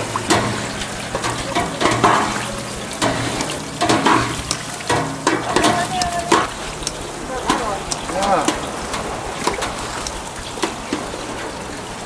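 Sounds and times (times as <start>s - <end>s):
food deep-frying in oil: 0.0s - 12.0s
utensils clicking and knocking: 0.2s - 11.2s.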